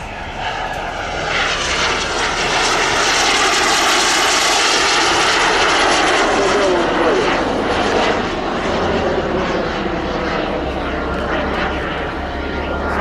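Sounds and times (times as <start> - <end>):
high turbine whine: 0.0 - 13.0
model jet turbine engines rushing: 0.0 - 13.0.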